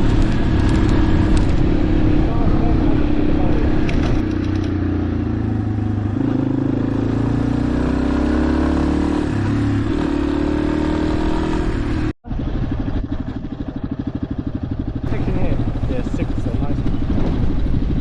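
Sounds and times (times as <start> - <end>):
motorcycle engine accelerating: 0.0 - 18.0
motorcycle engine pulsing at low revs: 0.0 - 18.0.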